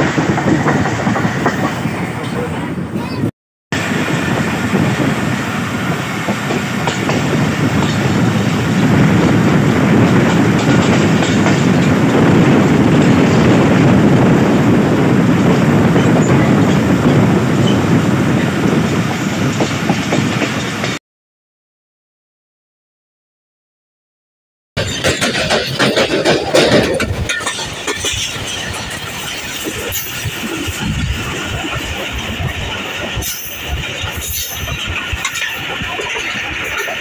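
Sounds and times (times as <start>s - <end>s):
train wheels clattering on rails: 0.0s - 3.2s, 3.8s - 21.0s, 24.8s - 37.0s.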